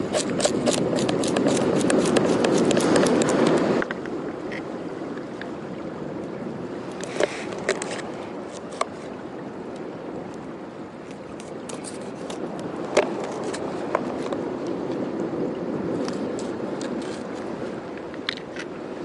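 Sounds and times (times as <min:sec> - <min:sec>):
sea surf against rocks: 0:00.0 - 0:19.0.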